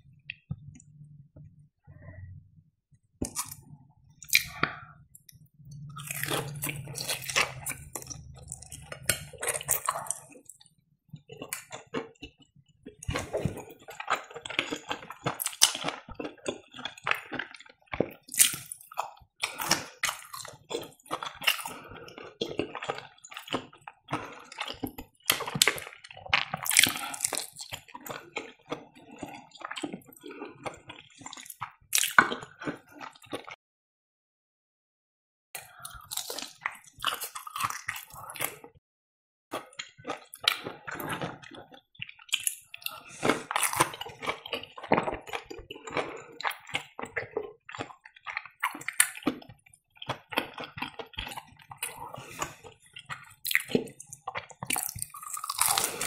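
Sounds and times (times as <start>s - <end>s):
chewing crunchy food: 3.2s - 33.6s, 35.6s - 38.8s, 39.5s - 56.0s.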